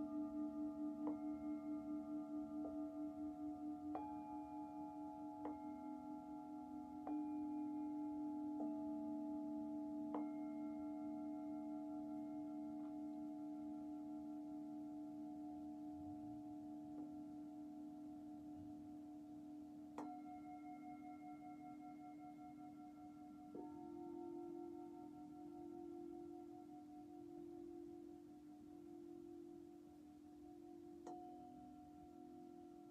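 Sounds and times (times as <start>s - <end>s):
singing bowls ringing: 0.0s - 28.0s.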